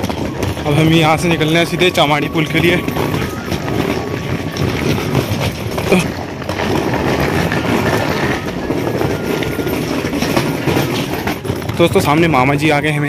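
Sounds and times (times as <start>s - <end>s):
footsteps on concrete: 0.0s - 12.6s.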